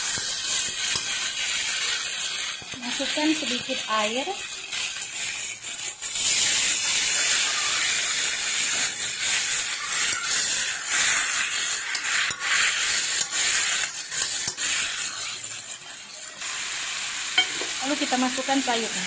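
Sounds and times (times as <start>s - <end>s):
metal spatula scraping wok: 0.0s - 19.0s
water sizzling in hot oil: 0.0s - 19.0s.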